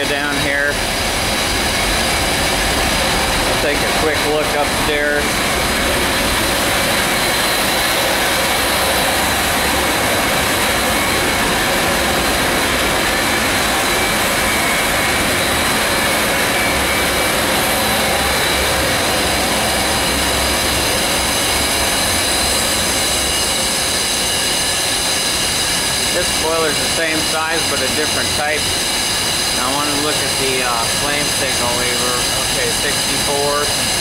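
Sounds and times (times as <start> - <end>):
boiler room roar: 0.0 - 34.0
faint steady whines: 0.0 - 34.0.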